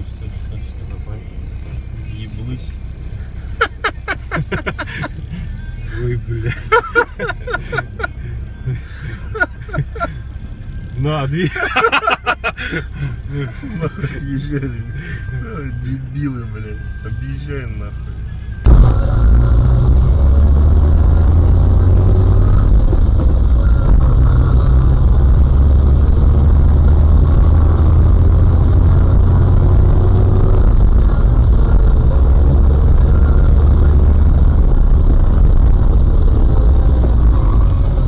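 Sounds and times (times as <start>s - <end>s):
car engine rumble: 0.0s - 38.0s
road noise: 0.0s - 38.0s.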